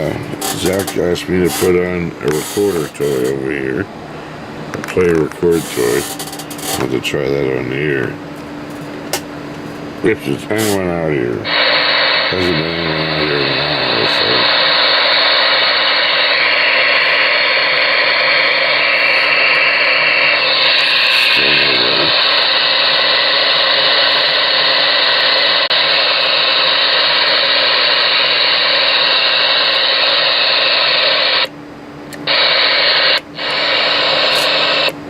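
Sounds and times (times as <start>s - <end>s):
radio receiver static: 0.0s - 3.9s, 4.7s - 8.2s, 10.0s - 31.5s, 32.2s - 35.0s.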